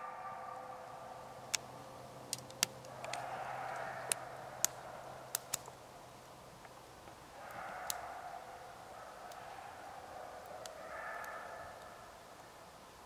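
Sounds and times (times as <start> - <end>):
campfire embers crackling: 0.8 - 13.0.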